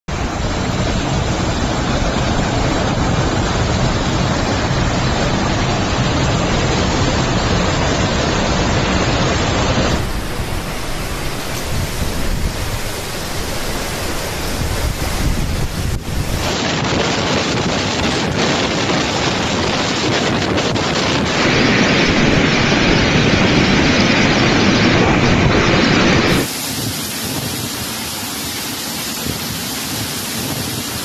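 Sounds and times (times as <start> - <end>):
storm wind and heavy rain: 0.1 - 31.0
wind buffeting microphone: 0.2 - 31.0.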